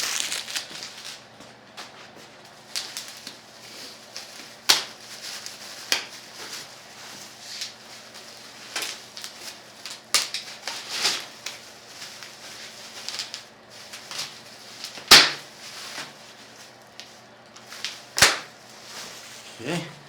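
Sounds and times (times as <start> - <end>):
packaging rustling and scraping: 0.0 - 1.2, 1.8 - 19.5.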